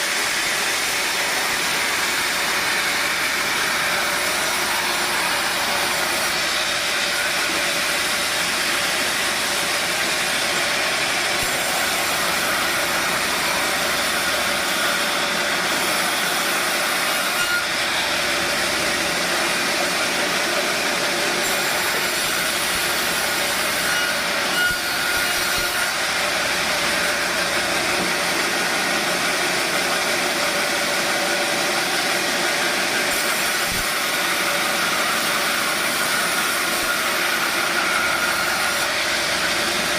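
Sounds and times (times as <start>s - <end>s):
sawmill saw cutting logs: 0.0s - 39.9s.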